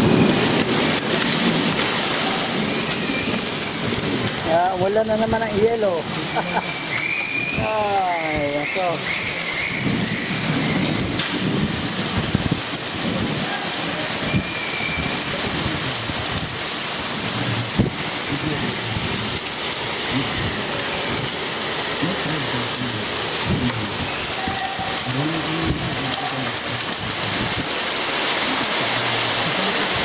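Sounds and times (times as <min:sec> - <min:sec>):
hailstones knocking: 0:00.0 - 0:30.0
rain pelting on tiles: 0:00.0 - 0:30.0.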